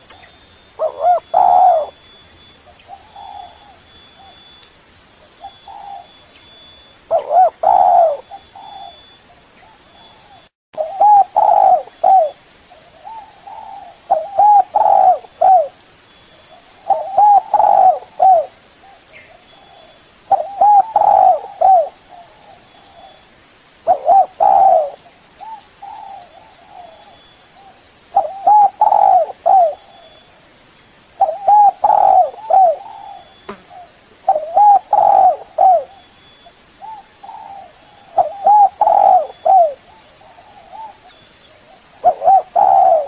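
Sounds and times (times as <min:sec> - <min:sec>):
dove cooing: 0:00.0 - 0:02.0, 0:02.6 - 0:04.5, 0:05.3 - 0:06.3, 0:07.1 - 0:15.8, 0:16.6 - 0:23.2, 0:23.8 - 0:30.2, 0:31.2 - 0:43.0.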